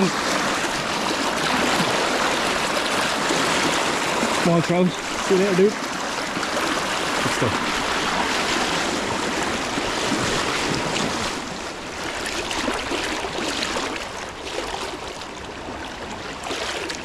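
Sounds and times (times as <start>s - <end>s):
river rushing over stones: 0.0s - 15.4s.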